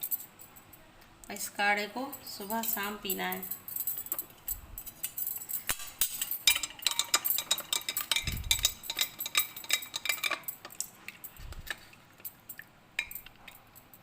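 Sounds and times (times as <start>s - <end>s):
metal spoon stirring and clinking: 2.2s - 14.0s.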